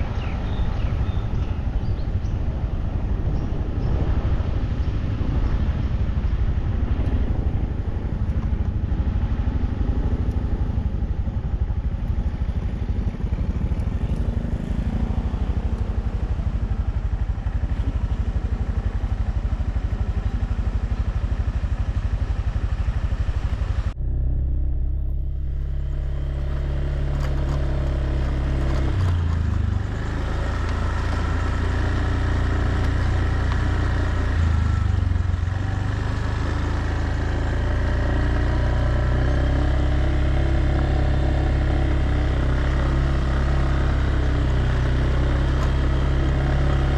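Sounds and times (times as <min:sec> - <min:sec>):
motorbike engine running: 0:00.0 - 0:46.9
wind rumble on microphone: 0:00.0 - 0:46.9.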